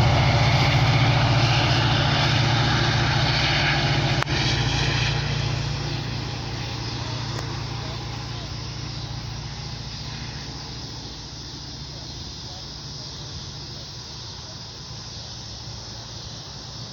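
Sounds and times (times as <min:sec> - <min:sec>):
diesel train engine drone: 0:00.0 - 0:16.9
train rolling noise: 0:00.0 - 0:16.9.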